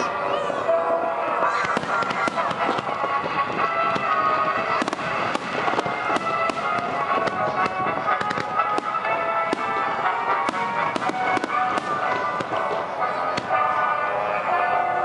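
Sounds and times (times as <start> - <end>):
music playing: 0.0 - 15.0
fireworks bangs and crackles: 1.6 - 14.9.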